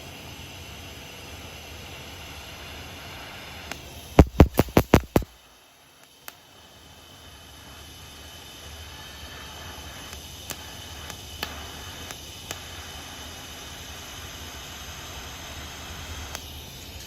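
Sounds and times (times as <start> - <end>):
welding arc hissing: 0.0 - 17.0
welding arc crackles: 0.2 - 17.0.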